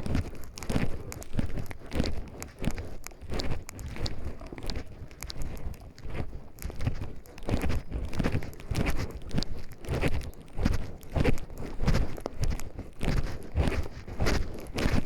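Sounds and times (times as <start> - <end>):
footsteps crunching on forest path: 0.0 - 15.0.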